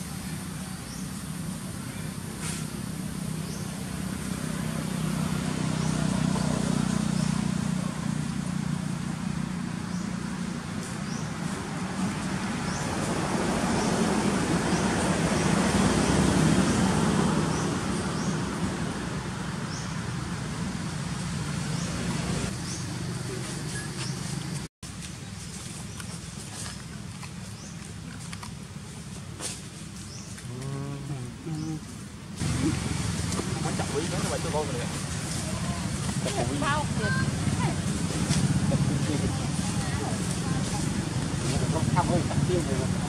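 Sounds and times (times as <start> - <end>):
passing traffic engine rumble: 0.0 - 43.0.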